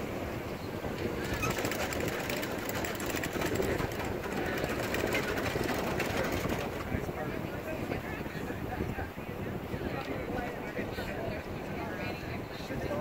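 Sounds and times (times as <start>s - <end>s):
water splashing along hull: 0.0s - 10.9s
wind buffeting microphone: 0.0s - 13.0s.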